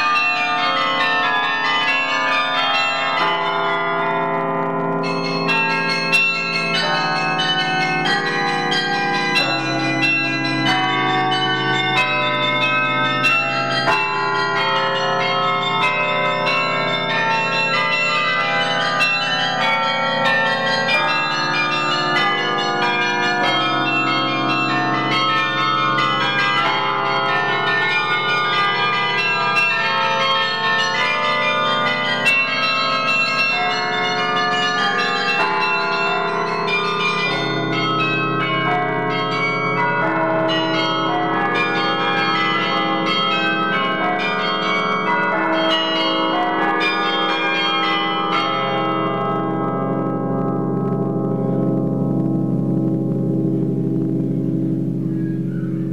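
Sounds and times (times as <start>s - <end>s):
carillon bells ringing: 0.0s - 55.9s.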